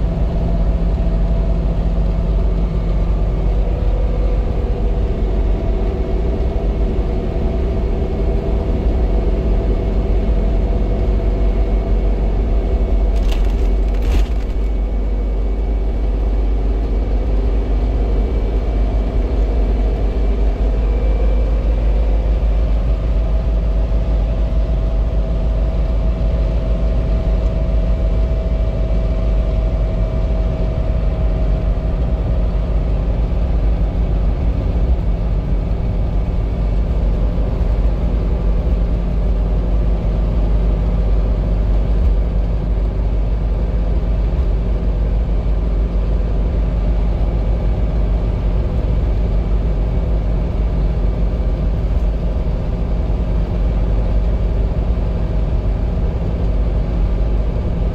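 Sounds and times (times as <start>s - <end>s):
car engine drone: 0.0s - 57.9s
road and tyre noise: 0.0s - 57.9s.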